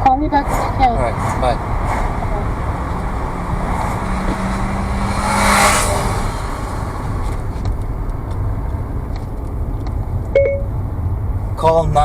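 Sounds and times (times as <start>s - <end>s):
car road and engine rumble: 0.0s - 12.0s
rushing noise: 0.4s - 10.3s.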